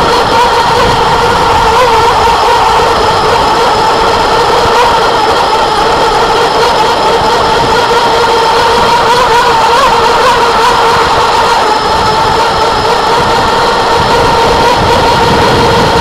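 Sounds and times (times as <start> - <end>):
high-pitched boat motor: 0.0 - 16.0.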